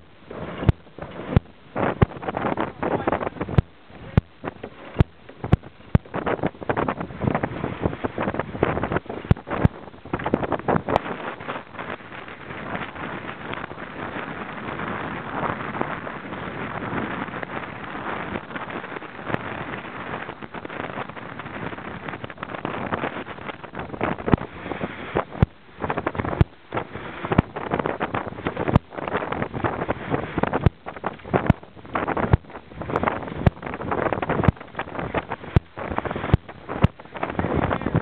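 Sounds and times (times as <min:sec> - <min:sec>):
knocks and buffets on microphone: 0:00.0 - 0:38.0
strong wind on microphone: 0:00.0 - 0:38.0.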